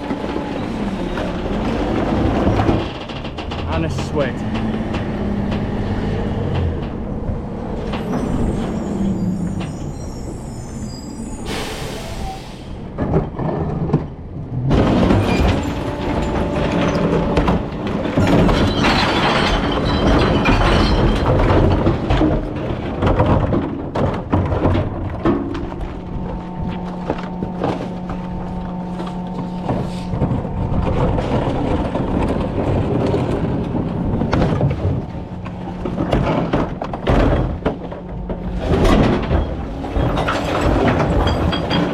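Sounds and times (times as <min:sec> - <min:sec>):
loud rattling and knocking: 0:00.0 - 0:08.4, 0:13.0 - 0:41.9.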